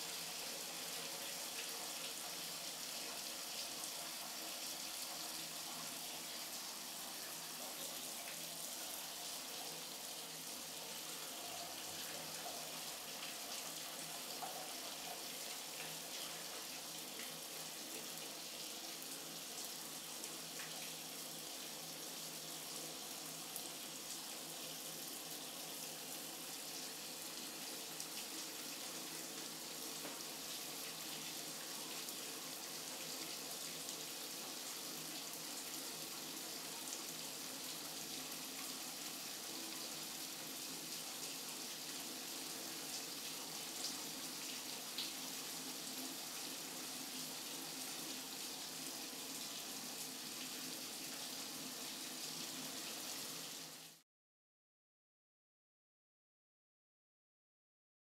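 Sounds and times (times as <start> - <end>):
trickling water hiss: 0.0 - 54.0.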